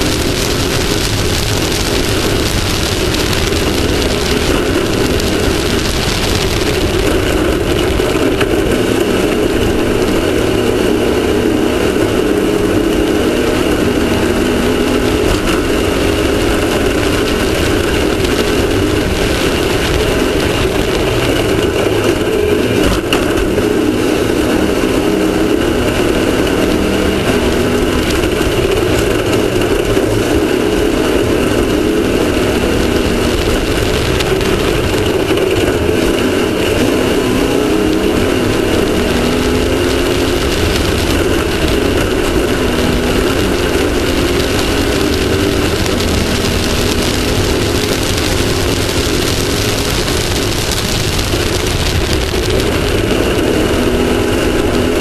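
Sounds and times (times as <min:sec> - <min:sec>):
vehicle engine running at speed: 0:00.0 - 0:55.0
wind and terrain noise: 0:00.0 - 0:55.0.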